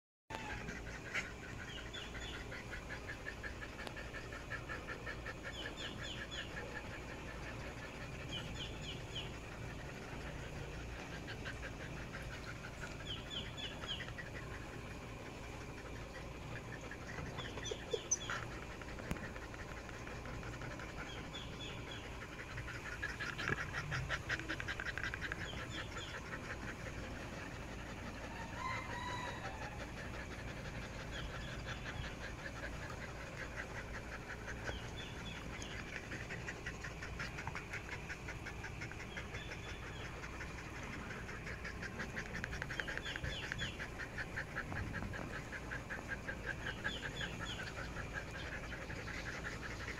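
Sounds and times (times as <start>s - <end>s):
birds calling: 0.3s - 49.9s
puppies panting: 0.3s - 49.9s.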